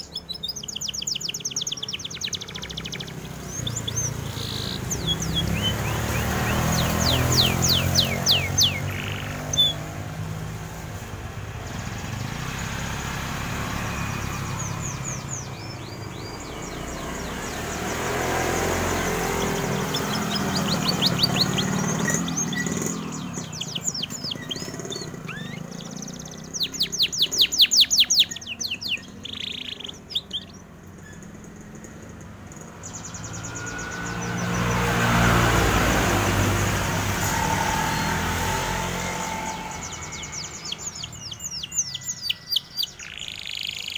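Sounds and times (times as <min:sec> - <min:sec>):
canary trilling: 0:00.0 - 0:10.8, 0:11.6 - 0:43.9
passing road traffic: 0:00.0 - 0:43.9.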